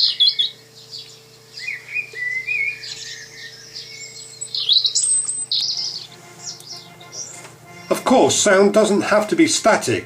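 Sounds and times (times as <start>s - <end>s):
background birdsong: 0.0s - 9.3s
faint steady hum: 0.0s - 10.0s
recorded robin song: 0.0s - 10.0s.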